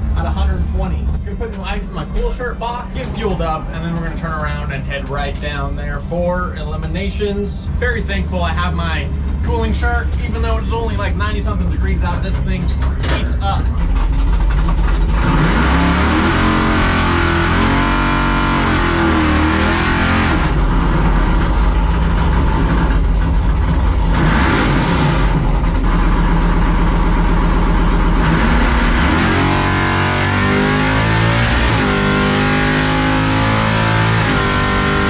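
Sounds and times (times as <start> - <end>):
truck engine revving at full throttle: 0.0 - 35.0.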